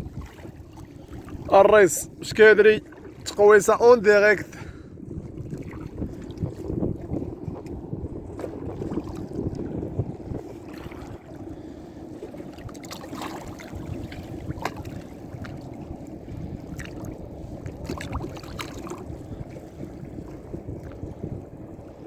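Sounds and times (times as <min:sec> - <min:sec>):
water noise: 0:00.0 - 0:22.0
wind: 0:00.0 - 0:22.0.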